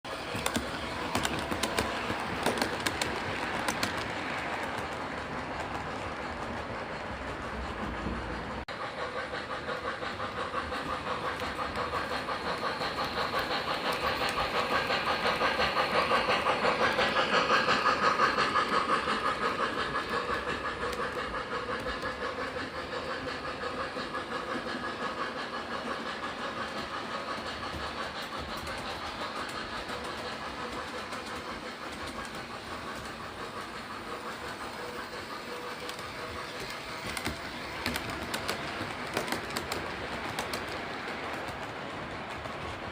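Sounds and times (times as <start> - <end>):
model train wheels clicking: 0.1 - 42.9.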